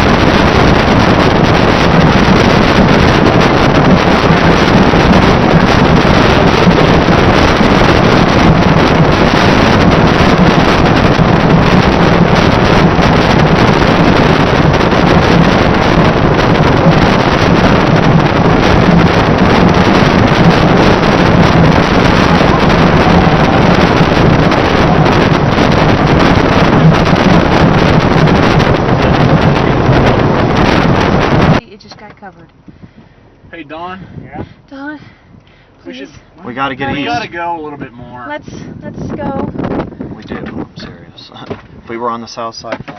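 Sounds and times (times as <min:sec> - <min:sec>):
low hum: 0:00.0 - 0:40.3
wind buffeting microphone: 0:00.0 - 0:42.9.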